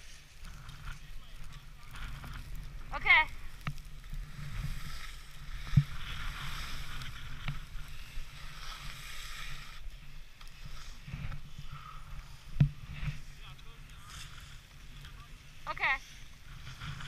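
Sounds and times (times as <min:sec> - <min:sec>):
skis sliding on snow: 0:00.0 - 0:17.0
wind rumble on microphone: 0:00.0 - 0:17.0.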